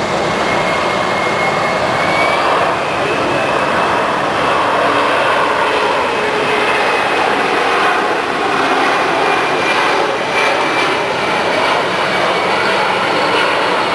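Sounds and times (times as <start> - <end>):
jet aircraft roaring past: 0.0 - 13.9.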